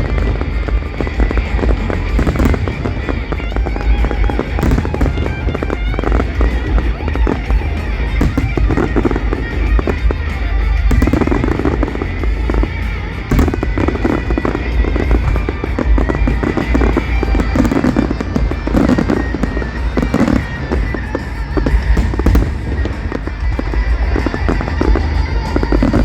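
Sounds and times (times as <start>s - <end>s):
fireworks booming: 0.0s - 26.0s
fireworks crackling: 0.0s - 26.0s
music playing: 0.0s - 26.0s.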